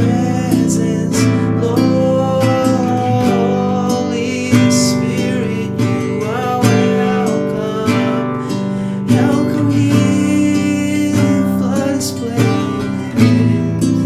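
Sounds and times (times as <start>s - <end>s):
classical guitar strumming: 0.0s - 14.0s
man singing: 0.0s - 14.0s.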